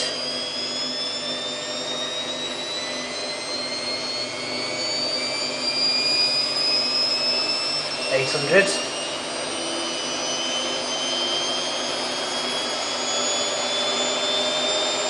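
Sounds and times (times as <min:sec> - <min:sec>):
washing machine spin whine: 0:00.0 - 0:15.0.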